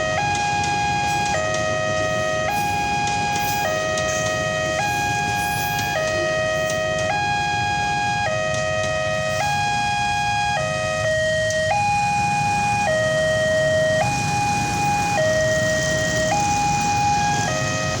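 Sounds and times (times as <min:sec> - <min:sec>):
level crossing warning siren: 0:00.0 - 0:18.0.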